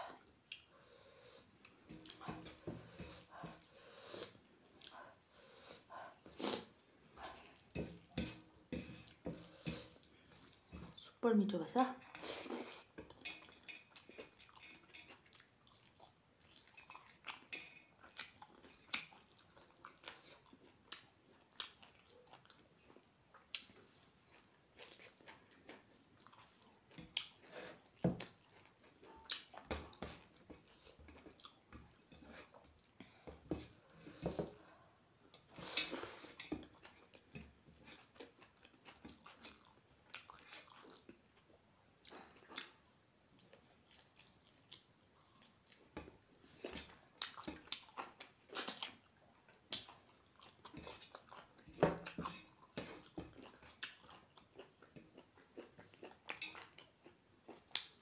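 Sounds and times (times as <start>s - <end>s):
person chewing with mouth smacks: 1.3s - 11.0s, 12.0s - 58.0s.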